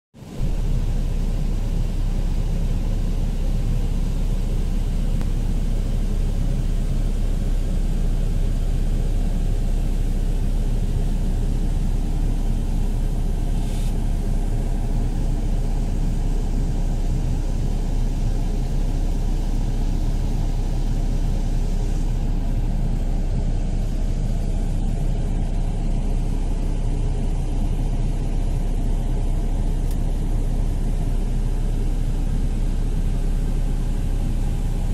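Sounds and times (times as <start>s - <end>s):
bus rumble from inside: 0.2s - 34.9s.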